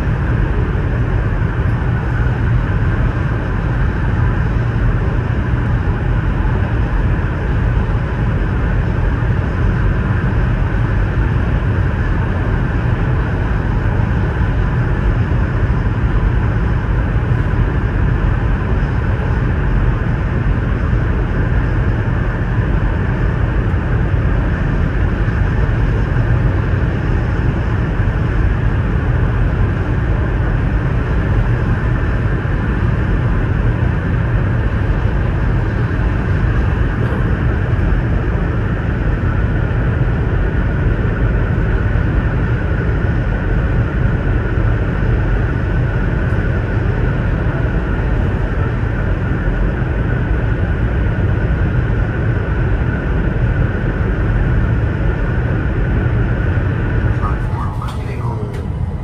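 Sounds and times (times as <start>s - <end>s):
high-speed train rumble inside cabin: 0.0s - 59.0s.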